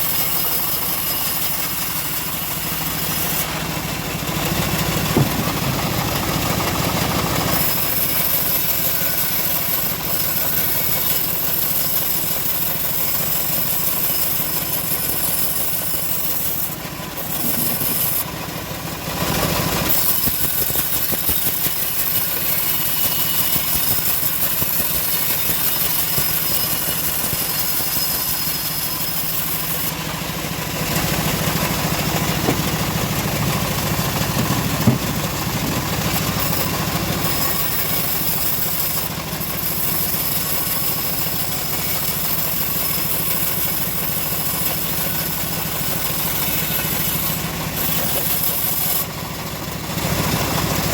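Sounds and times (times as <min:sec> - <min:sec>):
bandsaw mill sawing logs: 0:00.0 - 0:50.9.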